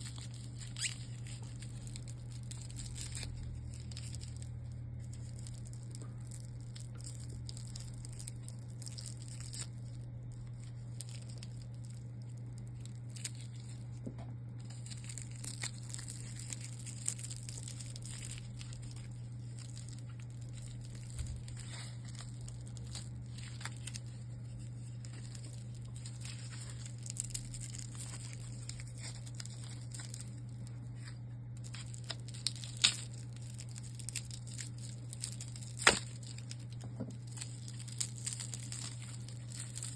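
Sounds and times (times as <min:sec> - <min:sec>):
packaging rustling and crinkling: 0:00.0 - 0:39.9
steady low hum: 0:00.0 - 0:39.9.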